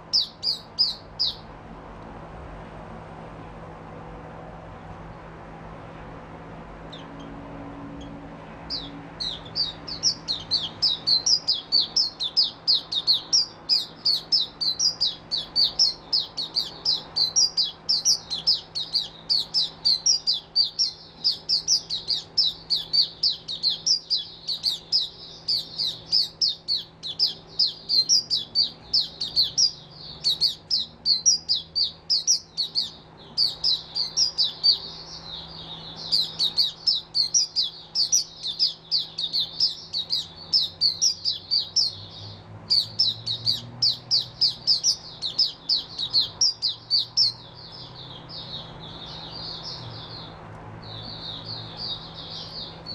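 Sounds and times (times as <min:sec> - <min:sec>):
bird chirping rapidly: 0:00.0 - 0:01.5, 0:06.9 - 0:07.4, 0:08.0 - 0:52.9.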